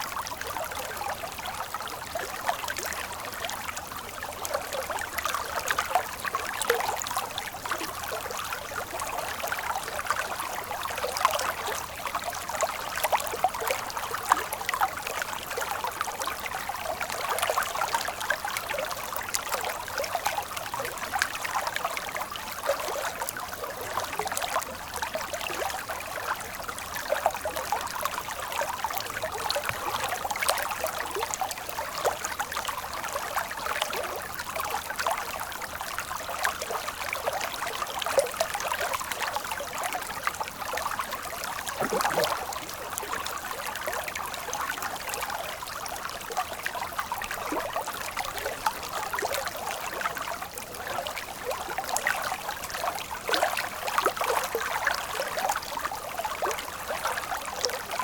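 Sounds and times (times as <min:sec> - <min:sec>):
stream water trickling: 0:00.0 - 0:58.0.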